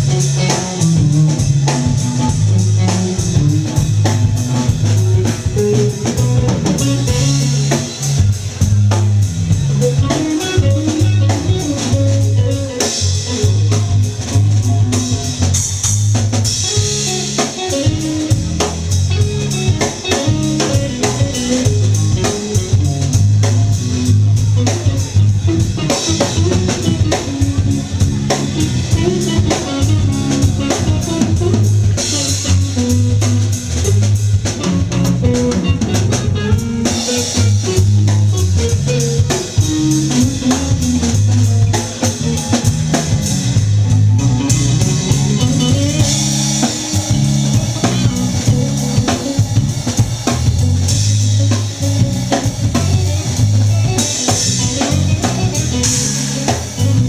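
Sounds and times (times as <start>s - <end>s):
bass guitar line: 0.0s - 57.0s
drums hitting: 0.0s - 57.0s
rock band playing live: 0.0s - 57.0s.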